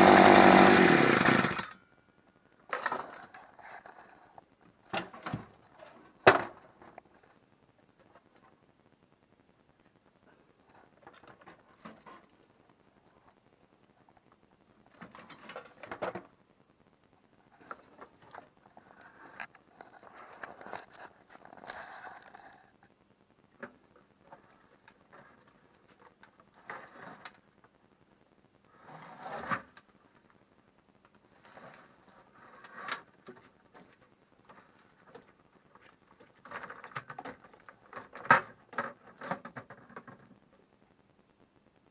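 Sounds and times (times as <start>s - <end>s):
rustling: 2.6s - 41.3s.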